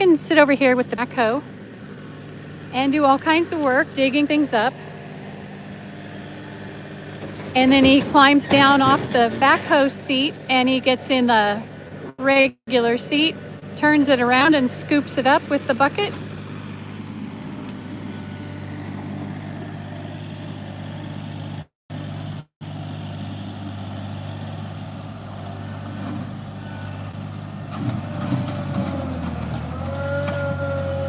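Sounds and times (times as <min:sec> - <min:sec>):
tractor diesel engine running: 0:00.0 - 0:31.0
engine knocks: 0:01.8 - 0:12.2, 0:13.4 - 0:21.1, 0:23.7 - 0:31.0.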